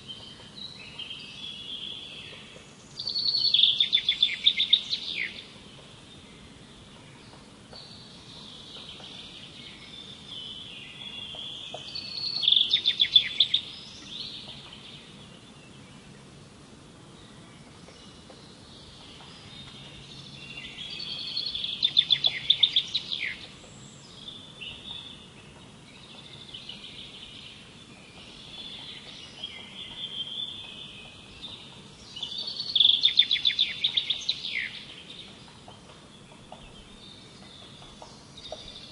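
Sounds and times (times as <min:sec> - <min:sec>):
songbird singing rapid notes: 0:00.0 - 0:16.4, 0:17.0 - 0:38.9.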